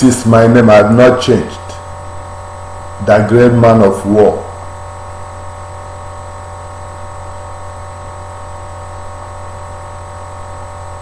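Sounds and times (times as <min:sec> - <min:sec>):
low mains hum: 0:00.0 - 0:11.0.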